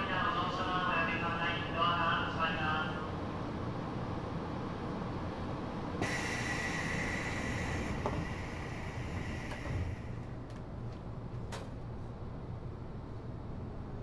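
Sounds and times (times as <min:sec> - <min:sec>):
subway car low rumble: 0:00.0 - 0:14.0.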